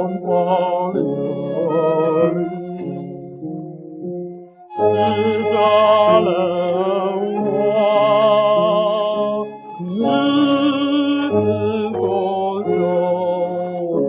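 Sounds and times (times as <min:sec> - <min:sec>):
old record of singing with instruments: 0:00.0 - 0:03.6, 0:04.8 - 0:14.0.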